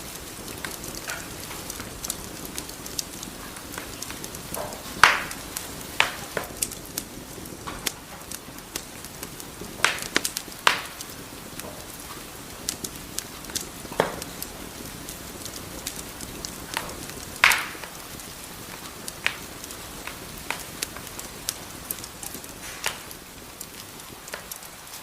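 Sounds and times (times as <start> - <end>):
fire hissing: 0.0 - 25.0
fire popping and snapping: 0.0 - 25.0.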